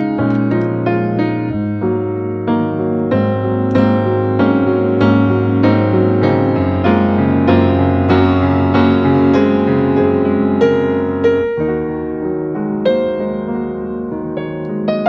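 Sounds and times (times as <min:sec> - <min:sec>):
soft piano playing: 0:00.0 - 0:15.0.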